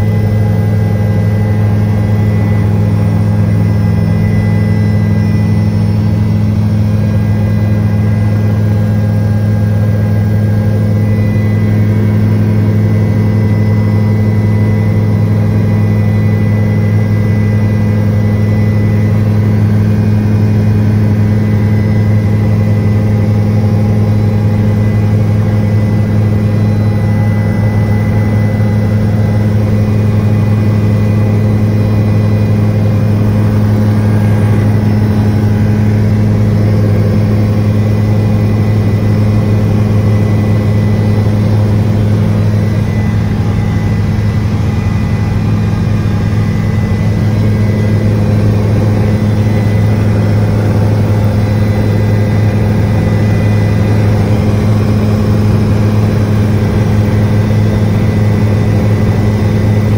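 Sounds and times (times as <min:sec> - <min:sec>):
helicopter drone from inside cabin: 0:00.0 - 0:59.9.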